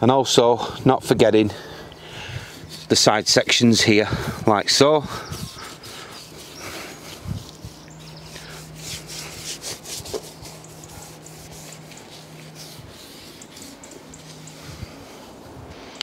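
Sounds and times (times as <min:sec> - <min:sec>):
bristle brush scrubbing: 0:02.2 - 0:15.6.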